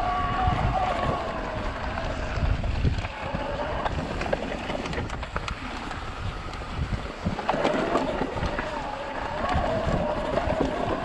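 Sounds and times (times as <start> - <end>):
tyre and trail noise: 0.0 - 11.0
wind buffeting microphone: 0.0 - 11.0
bike clicks and rattles: 1.8 - 11.0.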